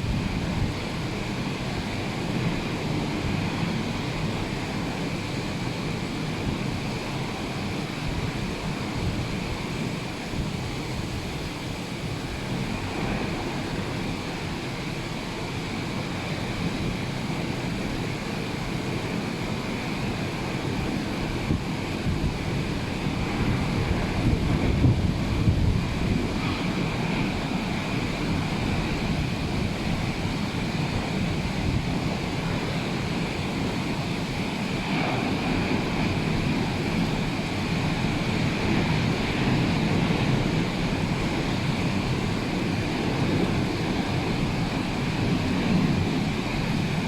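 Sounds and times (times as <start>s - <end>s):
rough sea surf washing: 0.0s - 47.0s
wind rumbling on microphone: 0.0s - 47.0s.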